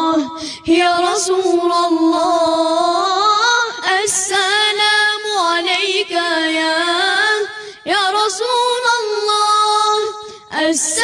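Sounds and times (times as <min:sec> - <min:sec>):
boys singing devotional song: 0:00.0 - 0:11.0.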